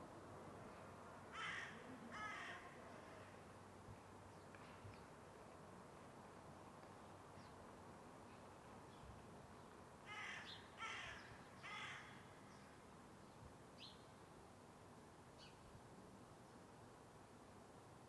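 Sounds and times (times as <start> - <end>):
quiet outdoor ambience: 0.0 - 18.0.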